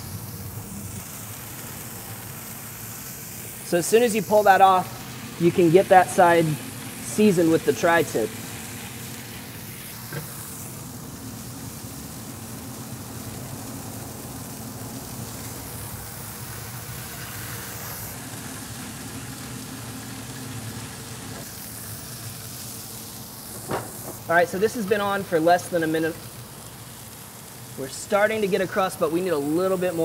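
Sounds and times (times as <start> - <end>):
burger patties sizzling on griddle: 0.0 - 30.0.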